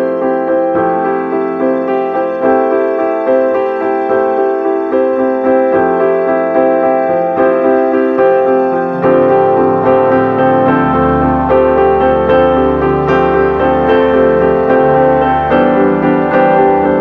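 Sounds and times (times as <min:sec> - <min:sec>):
soft piano melody: 0:00.0 - 0:17.0.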